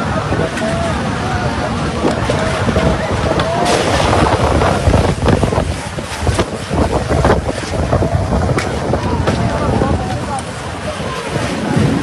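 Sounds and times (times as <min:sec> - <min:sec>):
heavy rain rushing: 0:00.0 - 0:12.0
storm wind buffeting microphone: 0:00.0 - 0:12.0.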